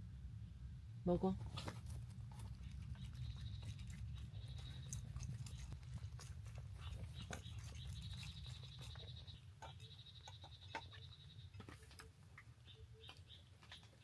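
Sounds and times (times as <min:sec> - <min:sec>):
dog chewing food: 0:01.4 - 0:14.0.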